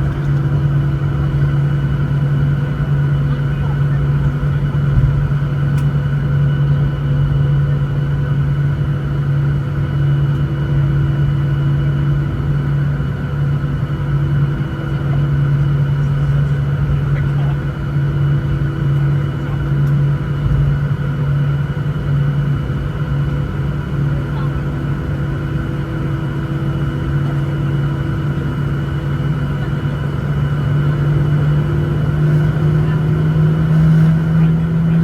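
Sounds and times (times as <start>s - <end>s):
airplane cabin engine hum: 0.0s - 35.0s.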